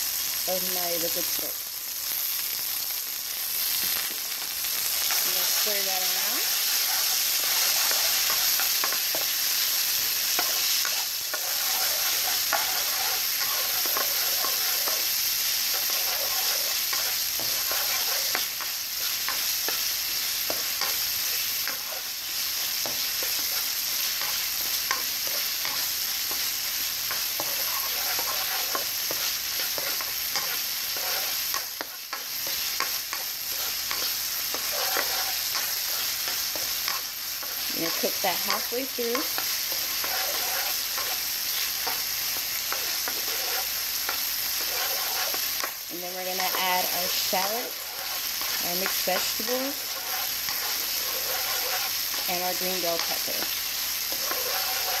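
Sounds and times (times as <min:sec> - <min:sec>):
food sizzling in hot oil: 0:00.0 - 0:55.0
spatula scraping a wok: 0:03.6 - 0:55.0.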